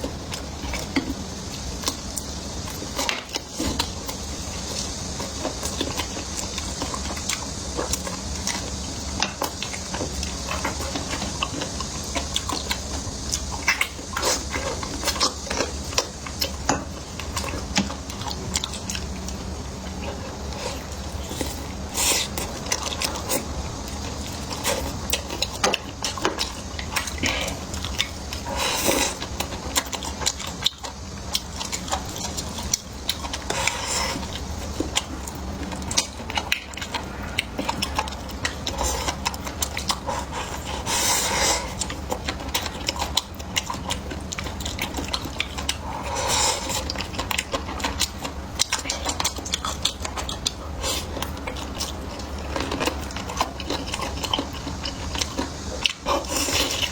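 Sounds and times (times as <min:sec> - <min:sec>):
low steady hum: 0:00.0 - 0:56.9
person chewing: 0:00.0 - 0:56.9.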